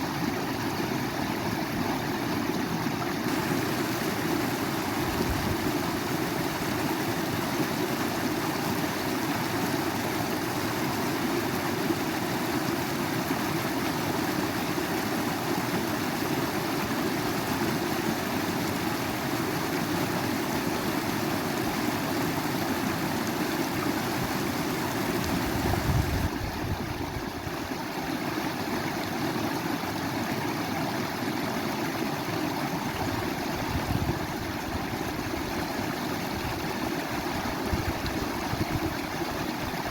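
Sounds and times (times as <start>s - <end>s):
stream water rushing and gurgling: 0.0s - 39.9s.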